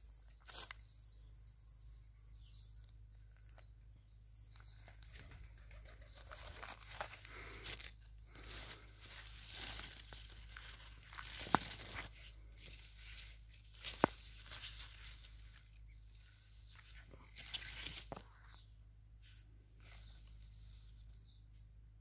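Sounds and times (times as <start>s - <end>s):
plants rustling against phone: 0.4s - 0.8s, 4.5s - 21.7s.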